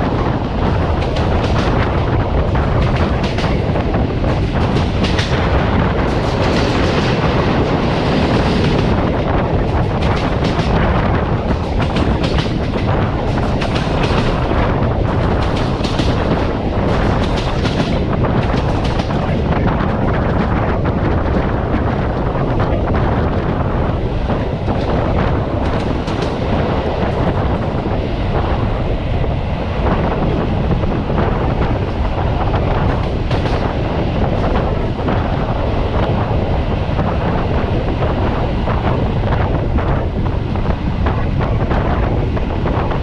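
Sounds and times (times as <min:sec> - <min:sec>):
train rumble and air rush: 0:00.0 - 0:43.0.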